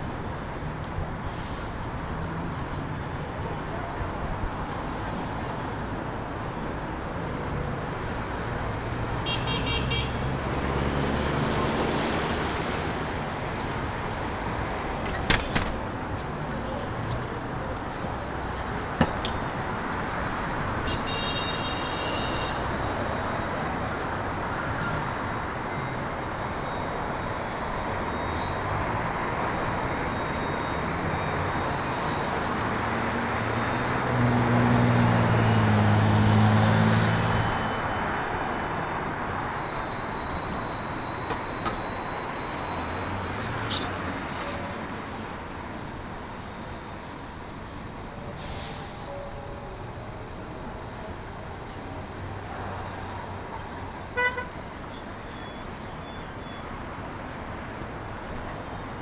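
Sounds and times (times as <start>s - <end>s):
city street traffic: 0.0s - 59.0s
heavy vehicle engine hum passing: 6.9s - 55.9s.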